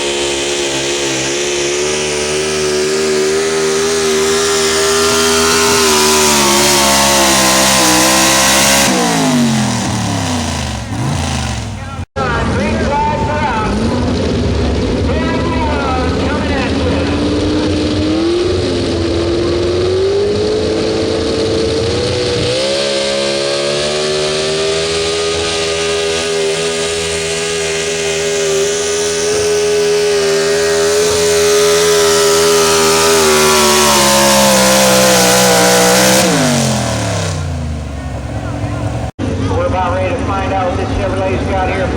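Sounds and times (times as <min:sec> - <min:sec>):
truck engine screaming at high revs: 0:00.0 - 0:41.9.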